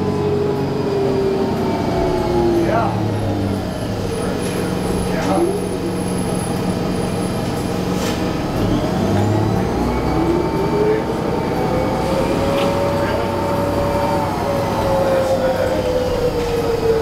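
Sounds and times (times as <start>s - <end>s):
bus drivetrain whine: 0.0s - 17.0s
bus engine rumble: 0.0s - 17.0s.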